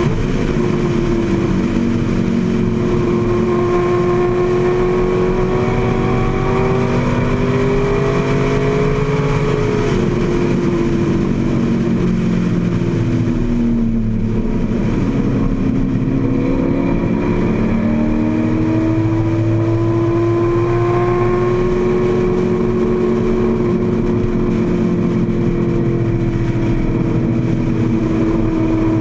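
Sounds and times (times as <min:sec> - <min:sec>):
racing engine accelerating: 0:00.0 - 0:29.0
wind rush: 0:00.0 - 0:29.0.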